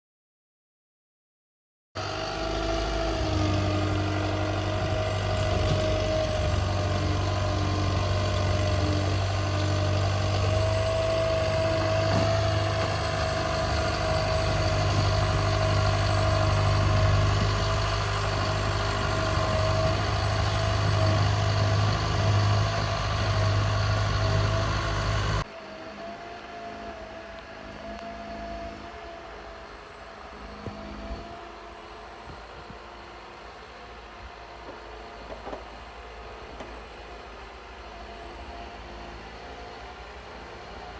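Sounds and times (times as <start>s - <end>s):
vehicle engine droning with whine: 2.0s - 40.9s.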